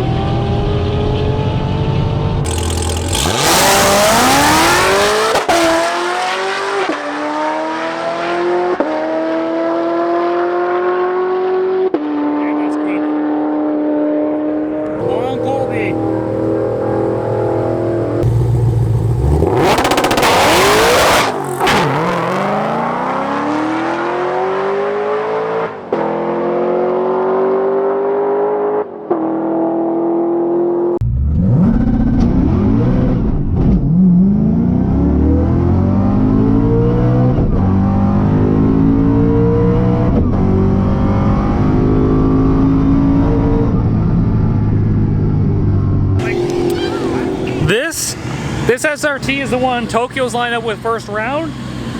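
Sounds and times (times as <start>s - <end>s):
drag racing car engines revving: 0.0s - 44.2s, 46.2s - 51.9s.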